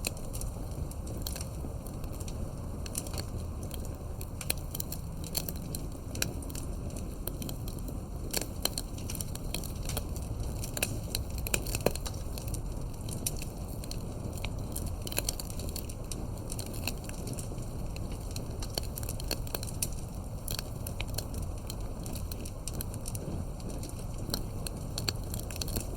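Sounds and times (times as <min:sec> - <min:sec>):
steady low rumble: 0:00.0 - 0:25.9
wood fire crackling: 0:00.0 - 0:25.9.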